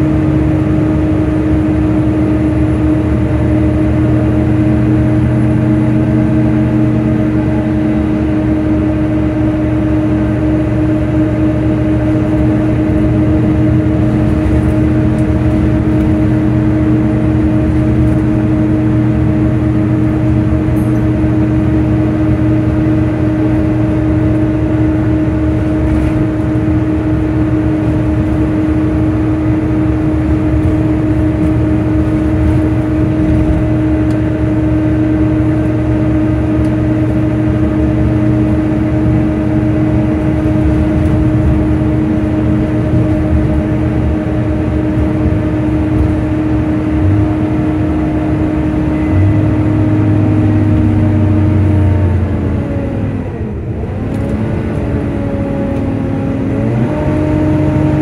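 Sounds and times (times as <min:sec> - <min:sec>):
cooling fan whine: 0:00.0 - 0:58.0
engine and road rumble: 0:00.0 - 0:58.0.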